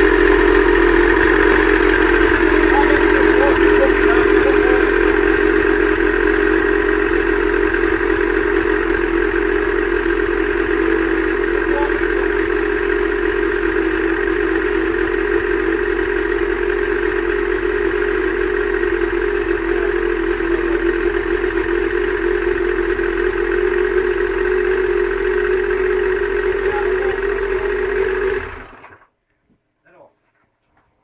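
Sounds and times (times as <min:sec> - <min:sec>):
outboard motor running: 0:00.0 - 0:29.1.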